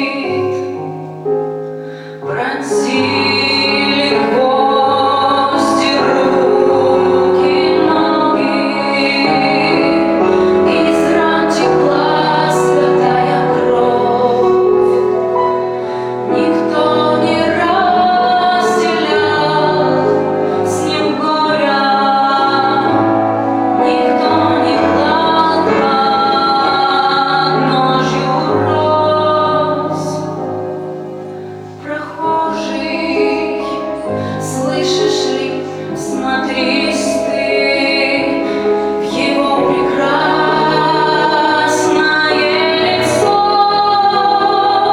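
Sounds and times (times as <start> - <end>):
woman singing: 0.0 - 1.0, 2.1 - 31.1, 31.8 - 44.9
instrumental accompaniment: 0.0 - 44.9.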